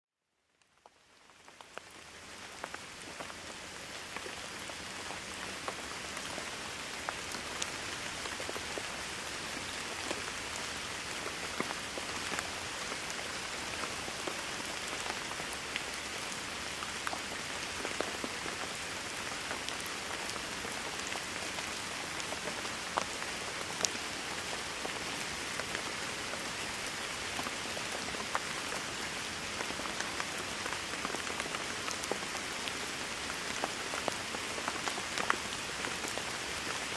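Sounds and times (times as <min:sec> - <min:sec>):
rain drops ticking: 0:00.6 - 0:36.9.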